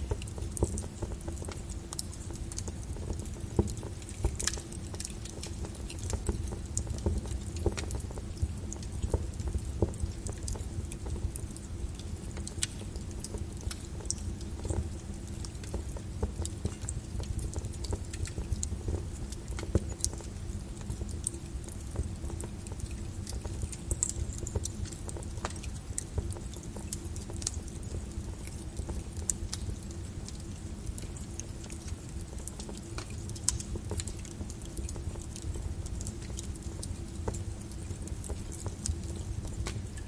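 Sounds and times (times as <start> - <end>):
rain: 0.0 - 40.0
wood fire crackling and popping: 0.0 - 40.0.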